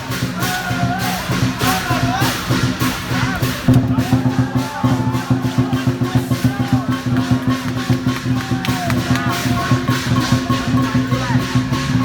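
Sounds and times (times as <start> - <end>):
drum and cymbals beat: 0.0 - 12.0.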